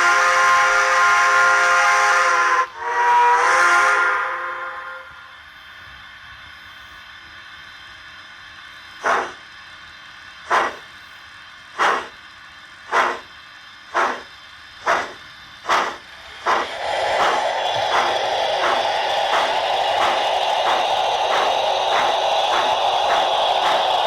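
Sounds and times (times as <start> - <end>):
steam locomotive exhaust chuffs: 0.0 - 24.0.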